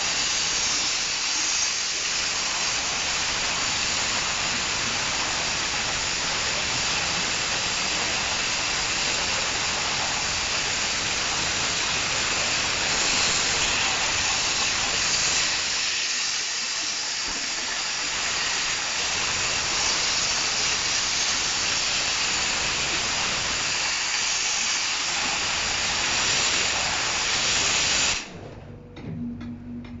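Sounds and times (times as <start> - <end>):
dry-ice blaster hissing: 0.0 - 28.4.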